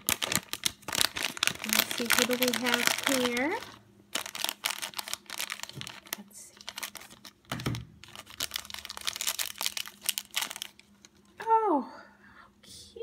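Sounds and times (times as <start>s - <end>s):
wrapper crinkling and tearing: 0.0s - 11.4s.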